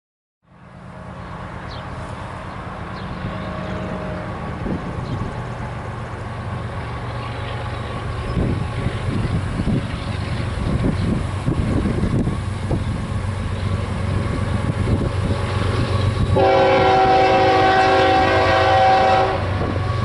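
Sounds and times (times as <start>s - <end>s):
diesel locomotive rumble: 0.4s - 20.0s.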